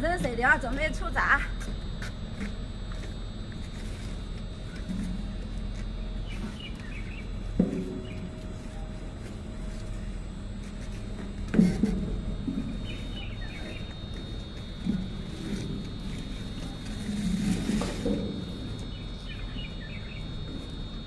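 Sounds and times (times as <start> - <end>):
cargo boat engine hum: 0.0 - 21.0.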